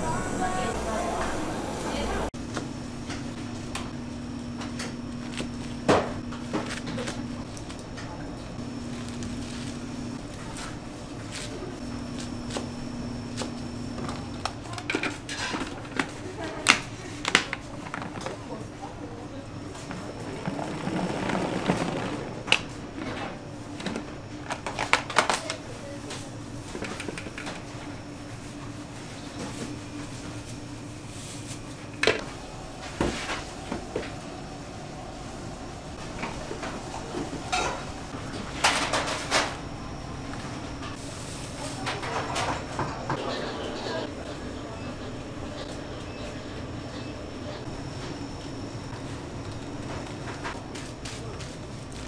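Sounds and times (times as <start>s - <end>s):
steady hum: 0.0s - 14.7s, 16.9s - 52.0s.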